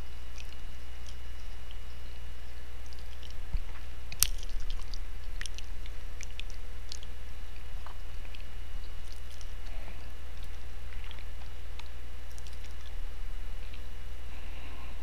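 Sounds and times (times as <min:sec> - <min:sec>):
faint high whine: 0:00.0 - 0:15.0
low electrical hum: 0:00.0 - 0:15.0
small clicks and ticks: 0:00.1 - 0:13.0.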